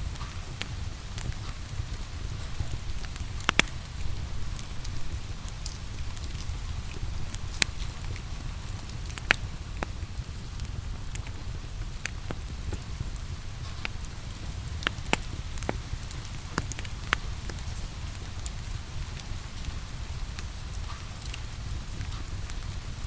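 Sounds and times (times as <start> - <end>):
crackling wood fire: 0.0 - 23.0
steady rain falling: 0.0 - 23.0.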